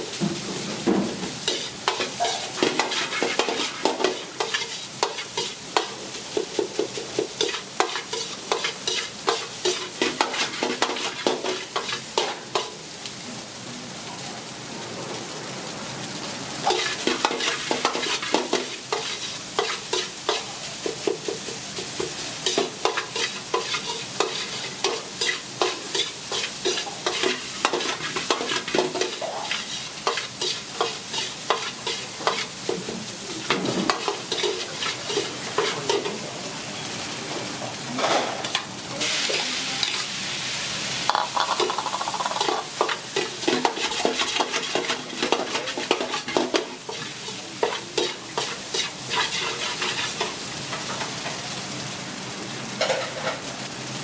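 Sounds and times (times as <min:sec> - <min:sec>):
food sizzling: 0:00.0 - 0:54.0.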